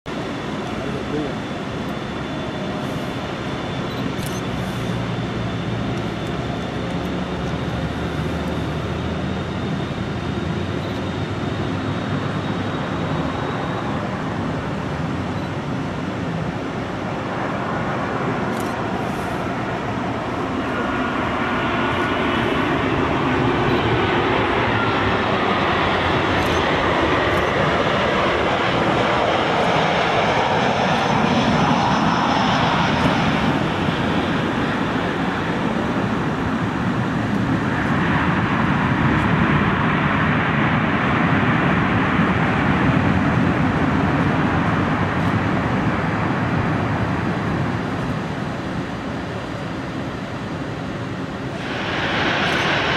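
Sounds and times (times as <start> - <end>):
jet engines rumbling and whining: 0.1 - 52.9.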